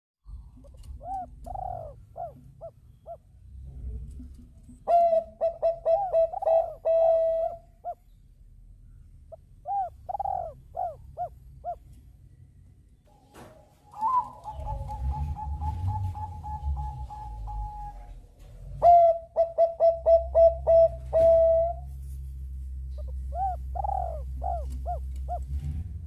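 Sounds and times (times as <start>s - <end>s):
doves cooing: 0.3s - 8.0s, 9.3s - 12.0s, 13.9s - 22.0s, 22.9s - 25.8s.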